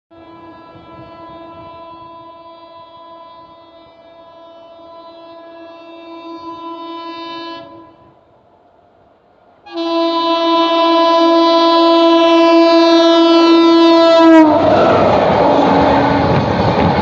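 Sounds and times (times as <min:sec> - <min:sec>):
locomotive horn blast: 0:00.1 - 0:08.2, 0:09.6 - 0:16.7
train rushing through station: 0:00.1 - 0:17.0.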